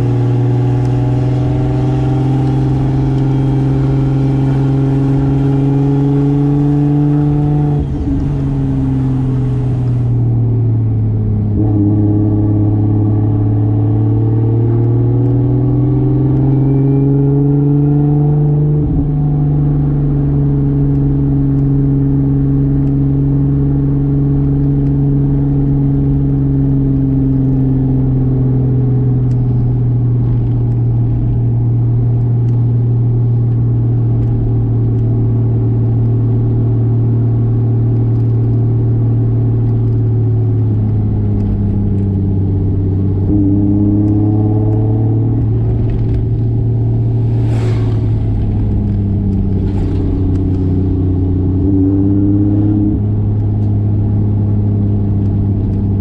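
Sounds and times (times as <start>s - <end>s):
car engine revving under load: 0.0s - 56.0s.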